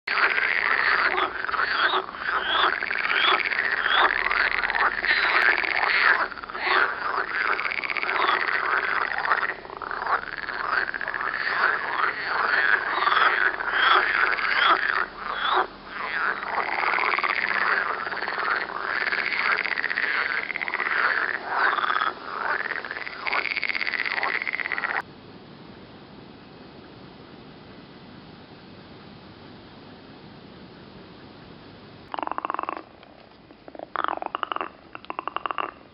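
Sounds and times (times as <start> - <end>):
frogs croaking: 0.1 - 25.1, 30.7 - 35.9.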